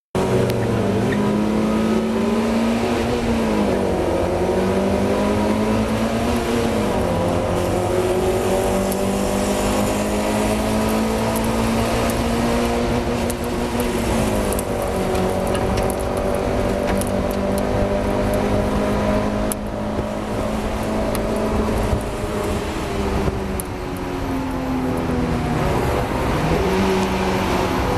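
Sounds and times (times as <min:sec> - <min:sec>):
road and wind noise: 0:00.1 - 0:27.9
car engine revving through gears: 0:00.2 - 0:23.7, 0:25.0 - 0:27.9.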